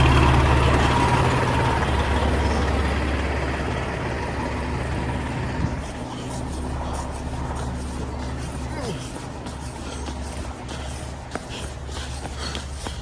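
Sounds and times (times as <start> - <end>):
diesel fire engine running: 0.0 - 13.0.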